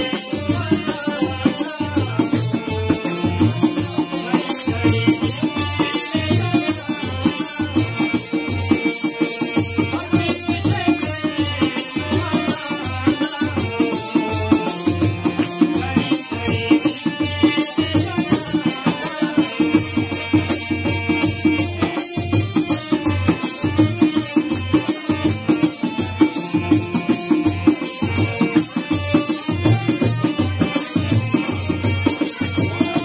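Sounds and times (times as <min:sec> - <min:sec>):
drum beat: 0:00.0 - 0:33.0
folk dance music: 0:00.0 - 0:33.0
rattling percussion: 0:00.0 - 0:33.0.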